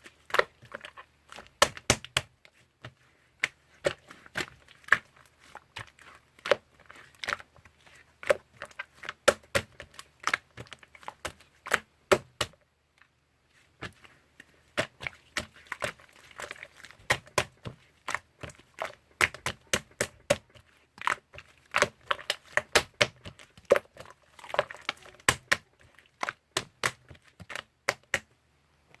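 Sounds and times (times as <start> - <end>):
soft crinkling: 0.0 - 29.0.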